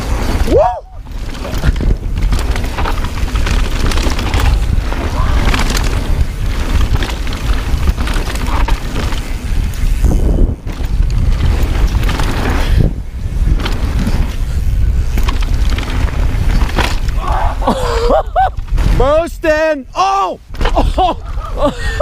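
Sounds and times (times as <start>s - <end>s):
mountain bike rattling on dirt trail: 0.0s - 22.0s
wind buffeting microphone: 0.0s - 22.0s.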